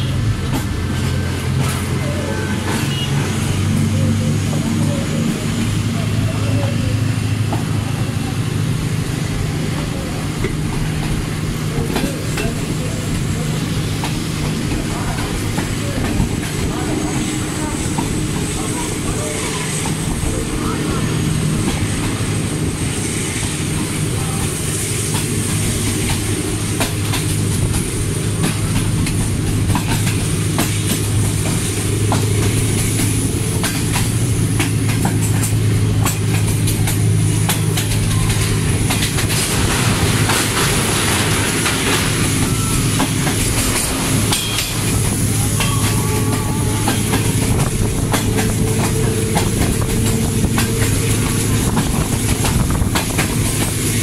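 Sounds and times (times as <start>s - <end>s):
train low drone: 0.0s - 54.0s
wheels clacking over rail joints: 0.2s - 23.0s, 23.6s - 54.0s.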